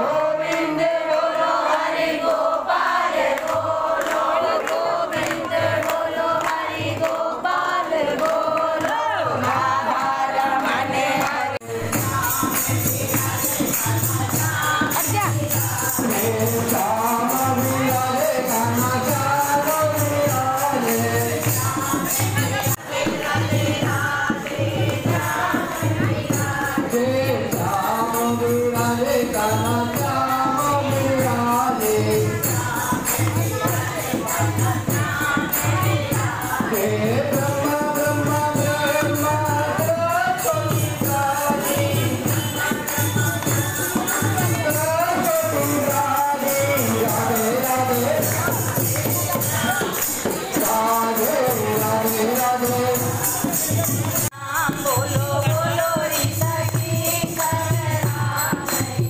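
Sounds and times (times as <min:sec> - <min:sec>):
group singing devotional song: 0:00.0 - 0:59.0
jingling percussion: 0:00.0 - 0:59.0
steady drum beat: 0:08.9 - 0:59.0.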